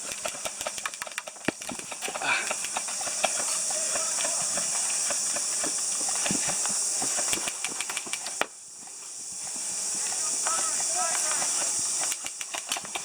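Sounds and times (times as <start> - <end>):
sharp clicks and pops: 0.0 - 8.6, 9.4 - 13.0
steady high hiss: 0.0 - 13.0.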